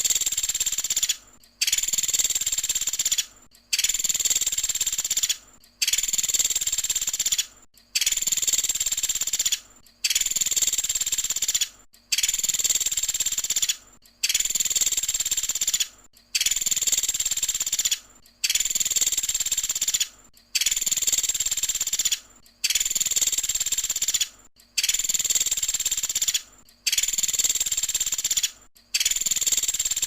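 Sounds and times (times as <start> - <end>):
woodpecker rattling trill call: 0.0 - 30.0.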